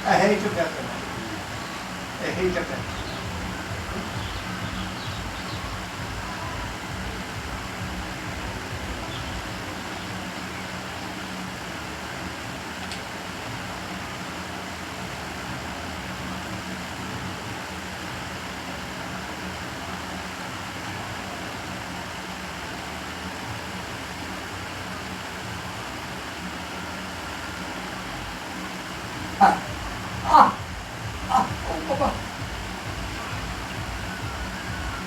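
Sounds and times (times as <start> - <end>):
ventilation hum and hiss: 0.0 - 35.0.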